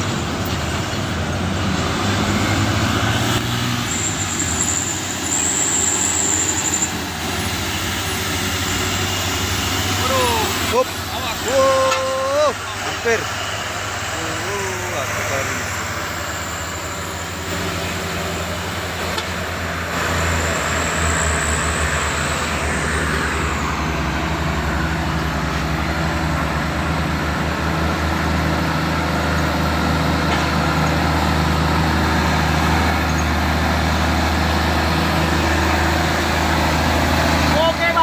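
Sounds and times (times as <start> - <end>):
diesel truck engine under load: 0.0 - 38.0.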